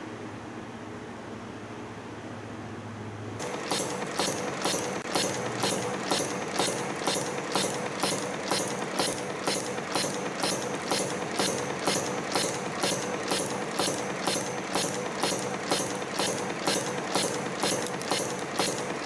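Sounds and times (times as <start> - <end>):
machine hum: 2.4 - 19.0
regular mechanical clatter: 3.4 - 19.0.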